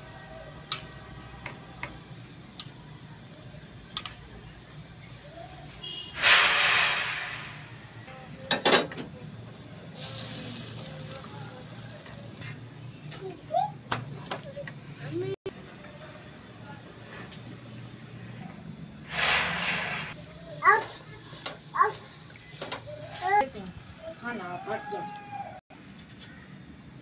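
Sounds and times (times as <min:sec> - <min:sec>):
batter sizzling on hot pan: 0:00.0 - 0:13.8, 0:14.8 - 0:25.5.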